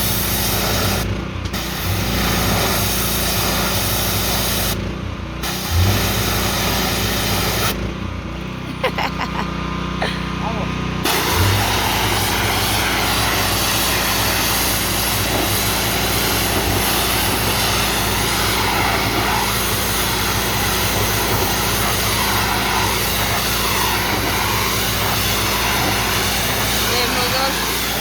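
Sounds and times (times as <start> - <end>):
high-pressure spray hissing: 0.0 - 4.8, 5.4 - 7.8, 11.0 - 28.0
gas engine running: 0.0 - 28.0.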